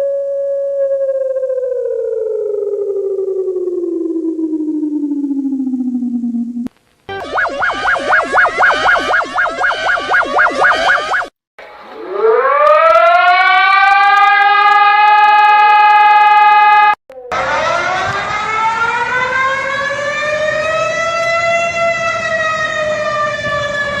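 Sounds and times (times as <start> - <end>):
civil defense siren winding: 0.0 - 11.3, 11.9 - 24.0.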